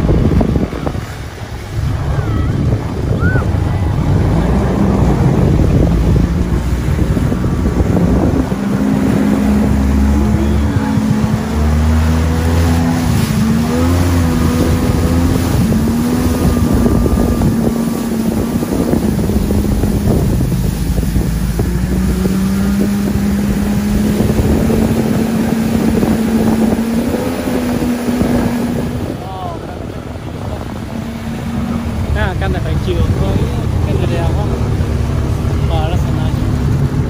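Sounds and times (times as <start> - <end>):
jet ski engine running: 0.0 - 37.0
water rushing against hull: 0.0 - 37.0
wind on microphone: 0.0 - 37.0.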